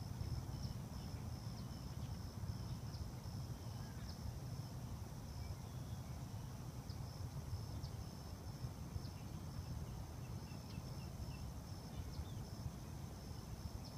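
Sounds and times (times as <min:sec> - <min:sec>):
insects trilling: 0:00.0 - 0:13.9.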